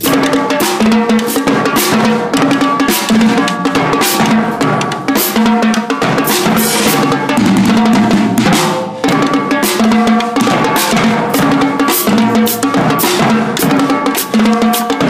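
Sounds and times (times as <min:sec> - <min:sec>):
pitched bass drums: 0:00.0 - 0:15.0
rapid snare strokes: 0:00.0 - 0:15.0
ringing cymbal crashes: 0:00.0 - 0:15.0.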